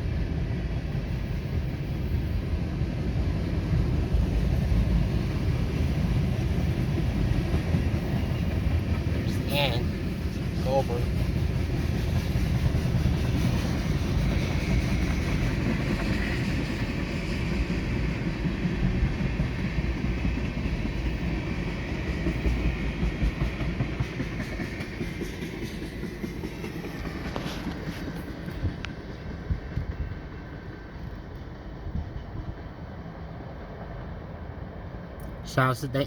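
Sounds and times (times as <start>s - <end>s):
freight train rumble: 0.0s - 36.0s.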